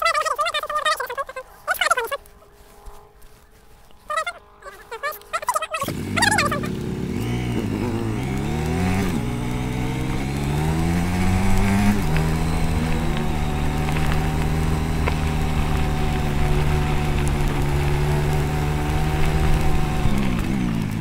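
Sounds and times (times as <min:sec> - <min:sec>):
motorcycle engine revving: 0:01.5 - 0:21.0.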